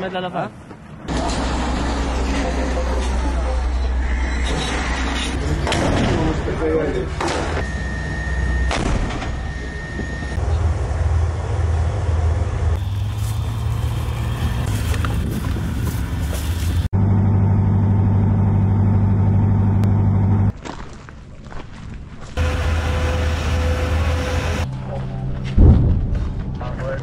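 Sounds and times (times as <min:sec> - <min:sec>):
low rumble of heavy vehicles: 0:00.0 - 0:20.6, 0:22.0 - 0:27.0
low engine drone: 0:01.0 - 0:20.5, 0:22.4 - 0:26.8.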